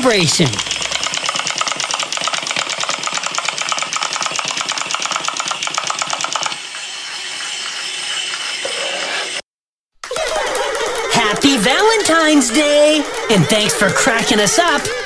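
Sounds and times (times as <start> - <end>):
wind-up toys whirring and clicking: 0.0 - 9.4, 10.0 - 15.0.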